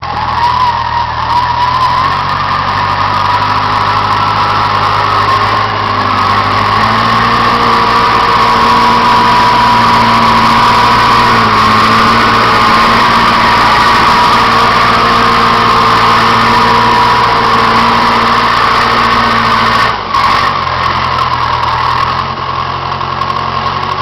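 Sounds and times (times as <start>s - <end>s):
dozer engine running: 0.0s - 24.0s
high whine: 0.0s - 24.0s.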